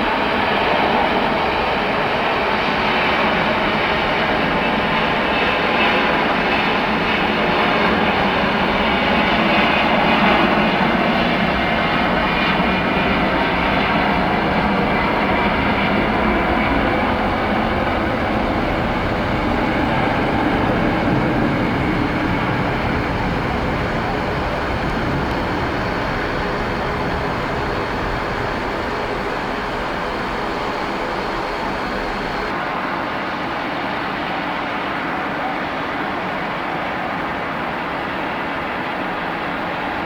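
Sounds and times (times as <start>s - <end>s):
airliner engines running: 0.0s - 40.0s.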